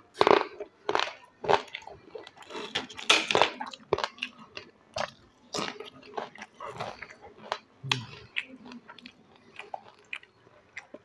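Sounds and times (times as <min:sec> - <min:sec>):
potato chips crunching: 0:00.2 - 0:11.0.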